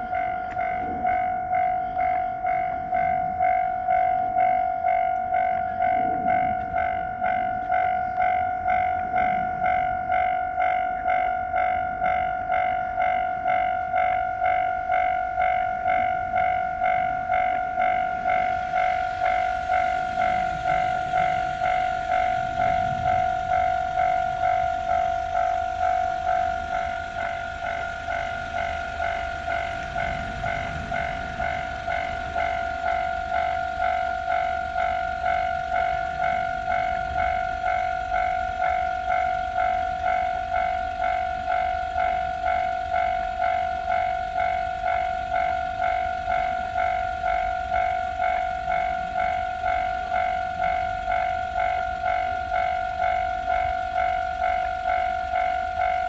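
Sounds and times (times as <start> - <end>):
level crossing warning bell: 0.0 - 56.0.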